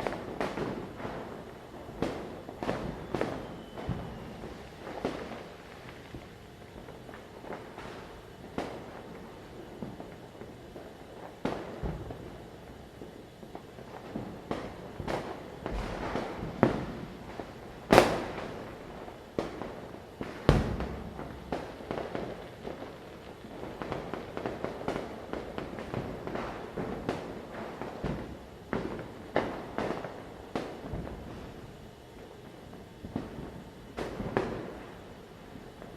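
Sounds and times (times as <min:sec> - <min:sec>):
firecrackers banging: 0:00.0 - 0:35.9.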